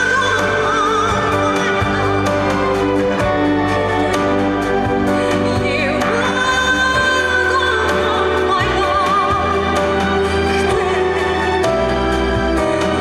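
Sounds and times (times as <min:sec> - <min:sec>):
instrumental accompaniment with beat: 0:00.0 - 0:13.0
woman singing a ballad: 0:00.0 - 0:13.0.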